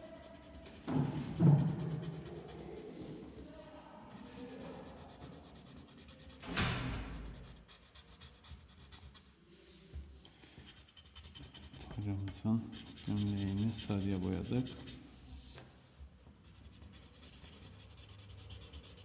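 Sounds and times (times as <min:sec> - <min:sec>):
pencil scratching on paper: 0:00.0 - 0:03.2, 0:04.1 - 0:09.3, 0:10.5 - 0:15.6, 0:16.4 - 0:19.0.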